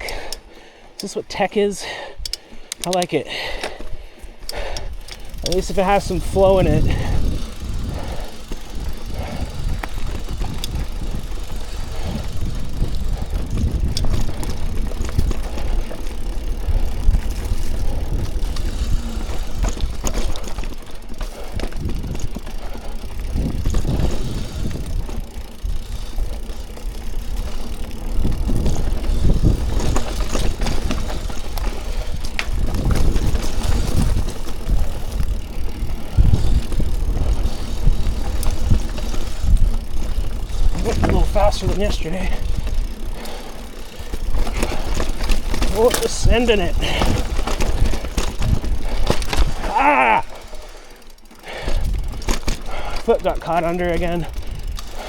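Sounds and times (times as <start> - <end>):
bike knocking and rattling on roots: 0.0 - 55.0
bike tyres rumbling on trail: 0.0 - 55.0.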